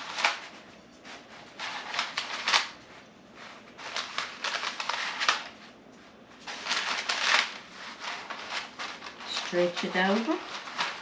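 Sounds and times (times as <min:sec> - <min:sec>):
parchment paper rustling: 0:00.0 - 0:11.0.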